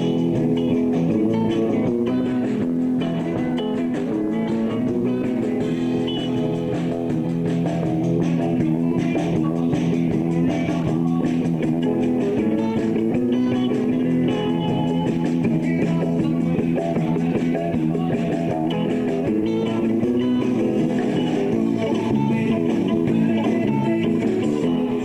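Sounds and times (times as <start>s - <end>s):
electric guitars: 0.0s - 25.0s
rock band playing instrumental: 0.0s - 25.0s.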